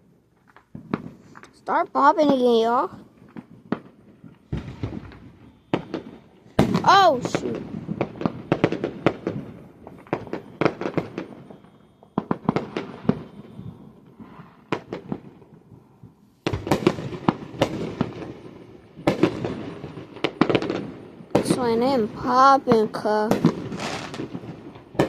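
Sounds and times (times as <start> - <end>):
fireworks popping: 0.3 - 25.0.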